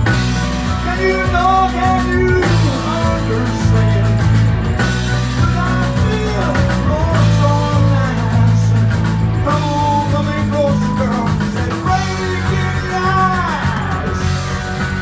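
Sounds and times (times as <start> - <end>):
bass line: 0.0 - 15.0
drums: 0.0 - 15.0.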